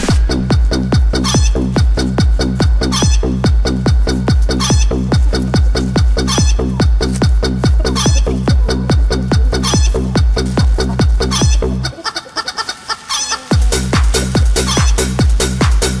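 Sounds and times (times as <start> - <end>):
techno track with chicken samples: 0.0 - 16.0.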